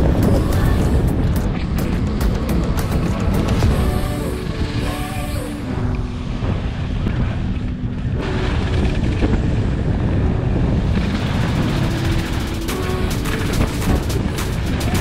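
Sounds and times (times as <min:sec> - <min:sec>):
background music with low notes: 0:00.0 - 0:15.0
wind buffeting microphone: 0:00.0 - 0:15.0.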